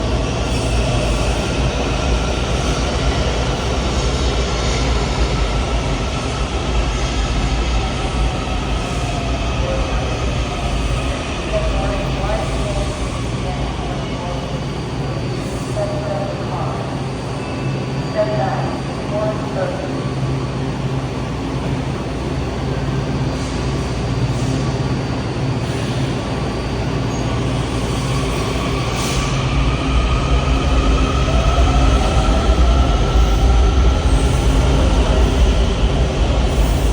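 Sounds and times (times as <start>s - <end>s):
underground train rumbling: 0.0s - 36.9s.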